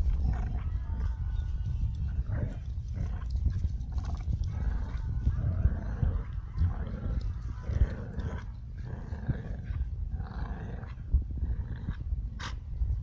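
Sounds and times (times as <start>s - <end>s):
dogs growling in play: 0.0s - 1.2s, 2.2s - 12.6s.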